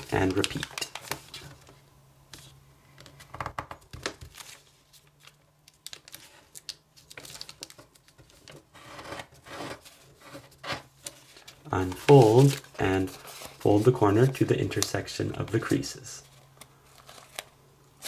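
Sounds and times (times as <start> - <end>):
paper rustling and crinkling: 0.0 - 18.0.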